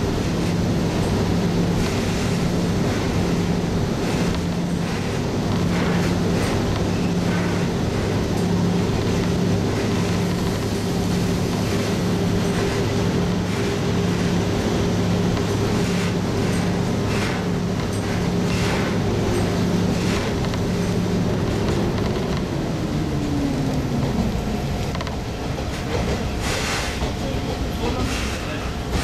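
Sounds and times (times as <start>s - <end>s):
railcar engine drone: 0.0s - 29.0s
rumble of train wheels: 0.0s - 29.0s.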